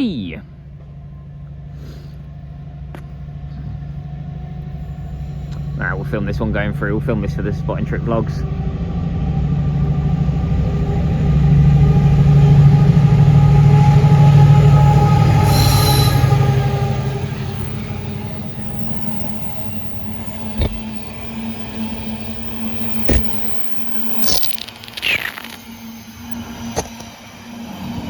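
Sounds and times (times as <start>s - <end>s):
diesel locomotive engine: 0.0s - 28.0s.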